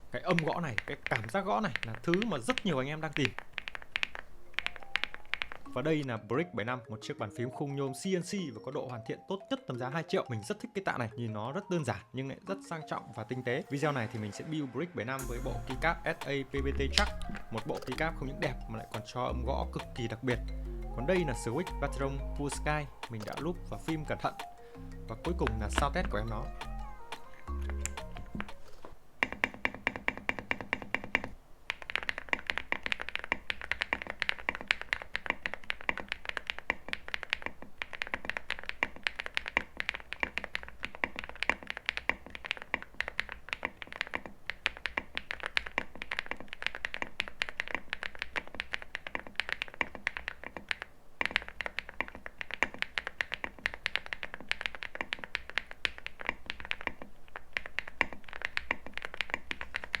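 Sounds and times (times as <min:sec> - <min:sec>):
mechanical keyboard typing: 0:00.1 - 0:06.1, 0:15.2 - 0:20.4, 0:21.1 - 1:00.0.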